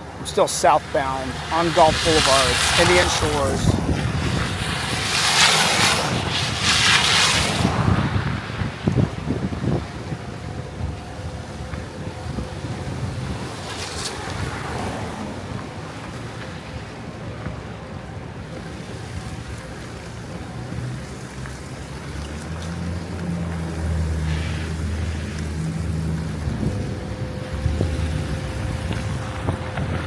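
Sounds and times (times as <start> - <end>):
car engine and tyres rumbling: 0.0 - 30.0
wind hiss: 0.0 - 30.0.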